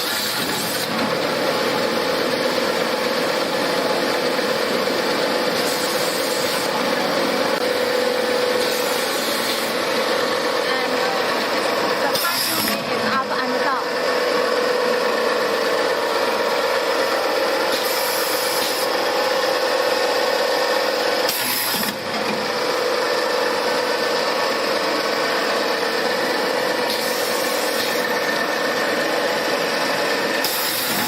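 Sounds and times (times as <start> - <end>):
production line machinery humming: 0.0 - 31.0.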